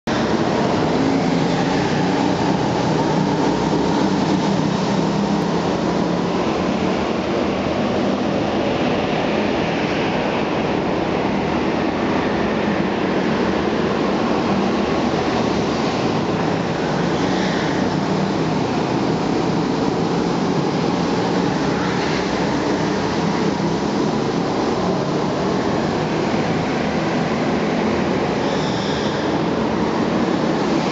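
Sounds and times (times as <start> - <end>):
go-kart engines droning: 0.1 - 30.9.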